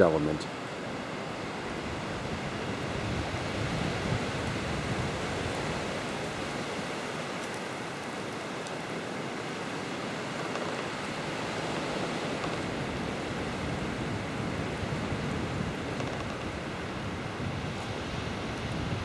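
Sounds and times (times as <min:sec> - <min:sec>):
wind hissing over microphone: 0:00.0 - 0:19.0.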